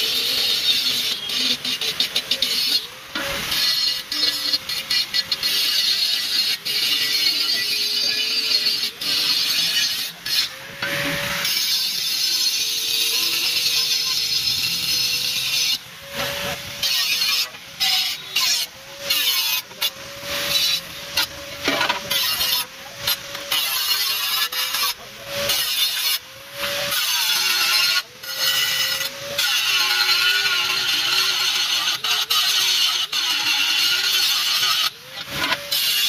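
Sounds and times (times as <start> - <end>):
angle grinder grinding steel: 0.0 - 36.0.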